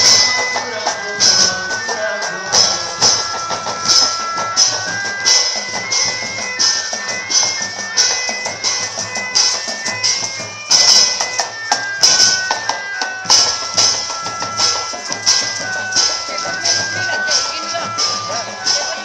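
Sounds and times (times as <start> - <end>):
drums and jingling percussion: 0.0 - 19.0
held melody line: 0.0 - 19.0.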